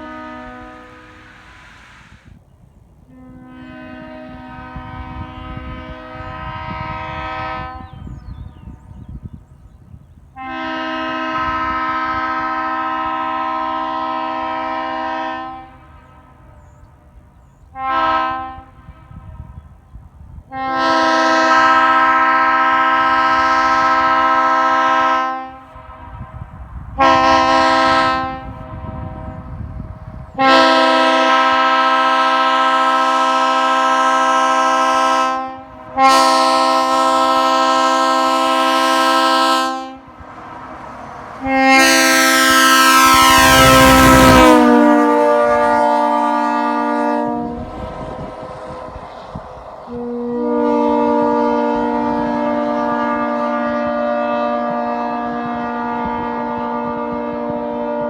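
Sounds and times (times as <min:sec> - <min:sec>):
train air horn blasts: 0:00.0 - 0:02.4, 0:03.0 - 0:09.4, 0:10.3 - 0:58.0.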